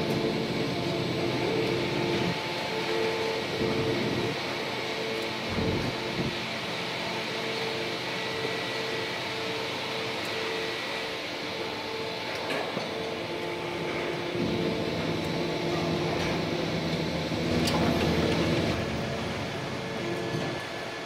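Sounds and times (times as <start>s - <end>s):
machine mechanical hum: 0.0s - 21.0s.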